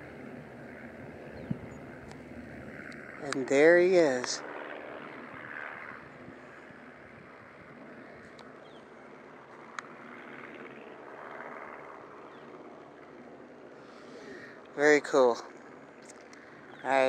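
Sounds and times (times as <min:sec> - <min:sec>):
propeller airplane droning: 0:00.0 - 0:17.0.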